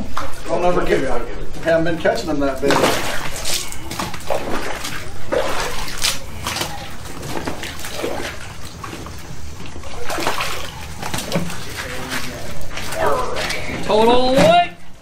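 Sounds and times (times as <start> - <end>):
water splashing in a plastic tub: 2.2 - 14.7.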